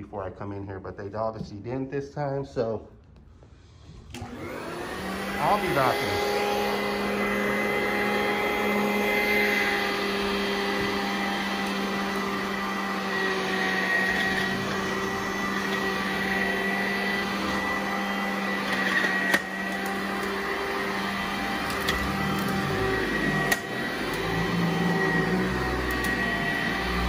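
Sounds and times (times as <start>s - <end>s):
vacuum cleaner running: 3.8s - 27.0s.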